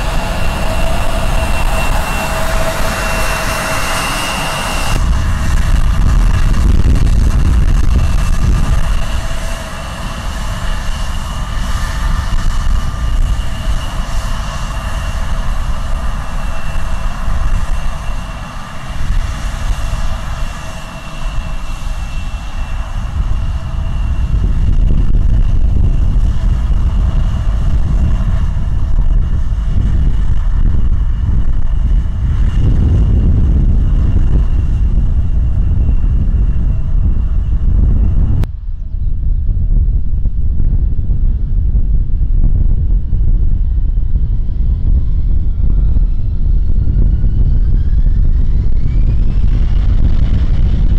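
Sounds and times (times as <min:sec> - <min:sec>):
jet engines whining and rumbling: 0:00.0 - 0:50.9.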